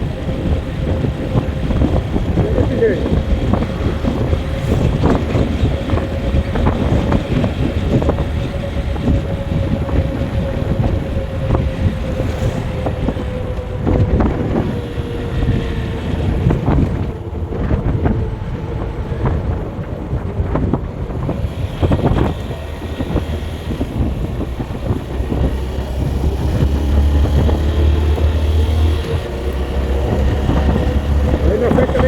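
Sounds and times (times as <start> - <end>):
vehicle engine and road noise: 0.0 - 32.0
wind buffeting microphone: 0.0 - 32.0.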